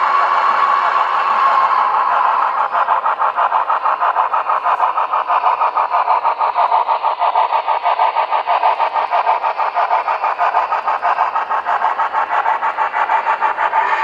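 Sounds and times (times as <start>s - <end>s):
steam locomotive chuffs: 0.0s - 14.0s.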